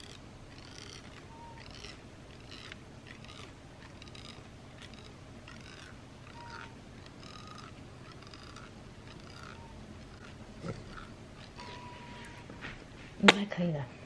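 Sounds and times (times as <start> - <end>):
thread plucking hairs from skin: 0.0 - 13.4.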